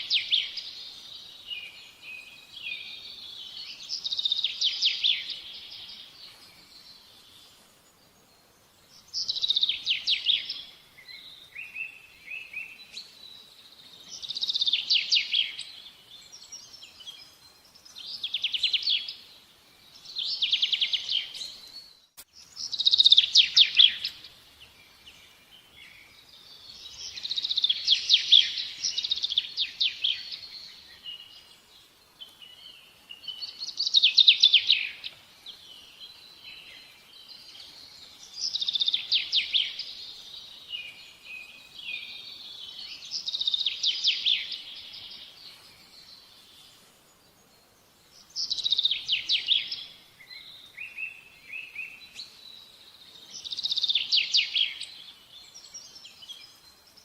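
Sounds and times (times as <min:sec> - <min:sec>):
bird singing trilled phrases: 0:00.0 - 0:57.0.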